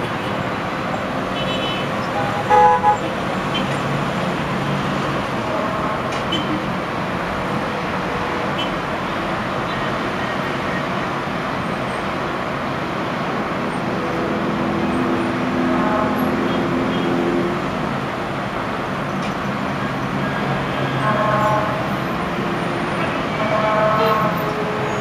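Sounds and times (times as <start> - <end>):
road traffic on a bridge: 0.0 - 25.0.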